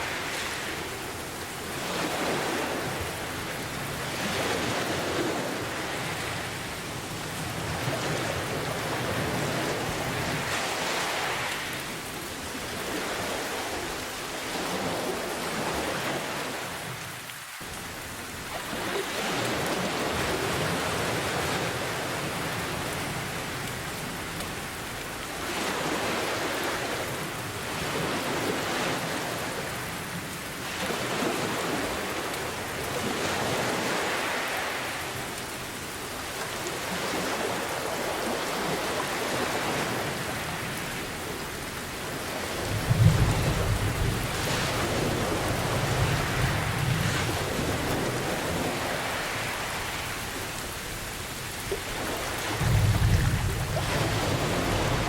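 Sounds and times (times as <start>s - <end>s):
ocean waves: 0.0s - 55.0s
steady rain: 0.0s - 55.0s.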